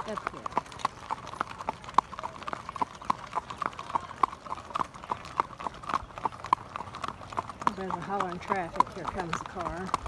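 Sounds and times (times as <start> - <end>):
hooves clip-clopping on pavement: 0.0 - 10.0.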